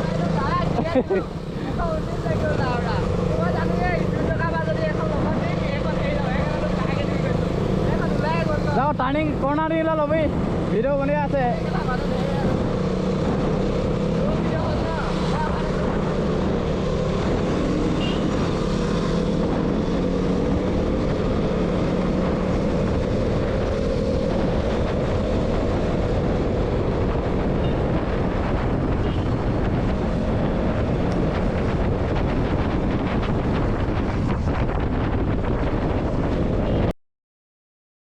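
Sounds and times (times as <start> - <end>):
motorcycle engine running: 0.0 - 34.0
wind rushing over microphone: 0.0 - 36.9.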